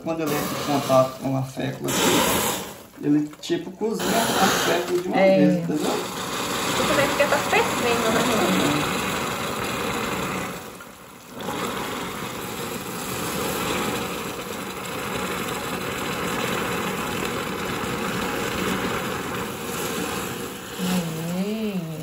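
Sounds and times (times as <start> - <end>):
hot oil and water sizzling: 0.0 - 22.0.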